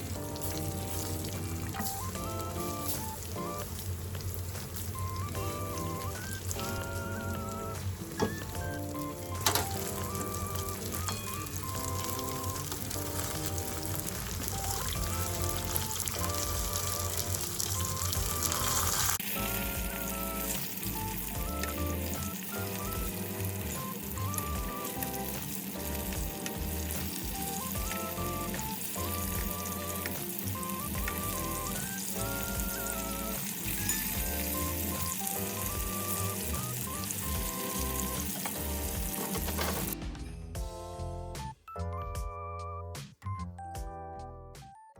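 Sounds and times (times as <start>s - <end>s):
food sizzling in a frying pan: 0.0s - 40.0s
background music with simple melody: 0.0s - 44.9s.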